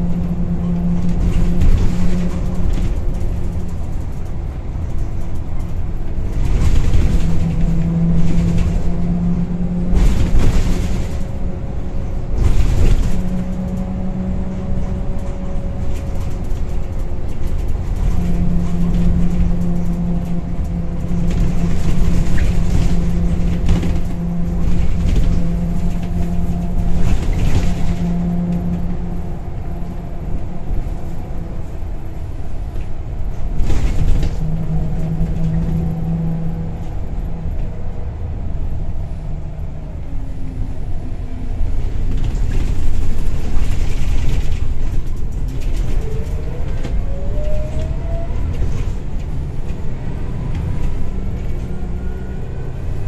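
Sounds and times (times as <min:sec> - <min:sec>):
bus body knocks and rattles: 0:00.0 - 0:37.6, 0:41.4 - 0:52.0
bus diesel engine drone: 0:00.0 - 0:53.0.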